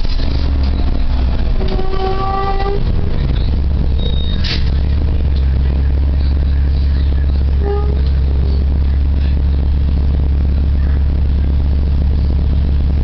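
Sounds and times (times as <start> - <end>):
bus engine drone: 0.0 - 13.0
steady tone with overtones: 0.0 - 13.0.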